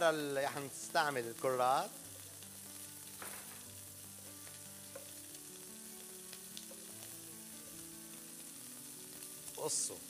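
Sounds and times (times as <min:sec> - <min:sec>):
faint background music: 0:00.0 - 0:10.0
meat and onions sizzling: 0:00.0 - 0:10.0.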